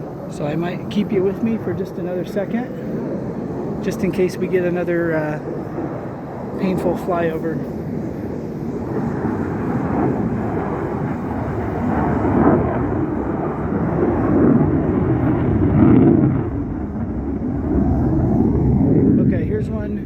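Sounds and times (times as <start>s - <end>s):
jet flying overhead: 0.0s - 20.0s.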